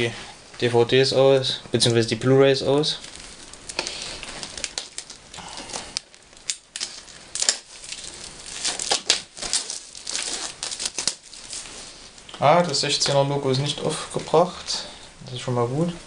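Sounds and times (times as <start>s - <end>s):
crinkling plastic packaging: 1.3s - 16.0s.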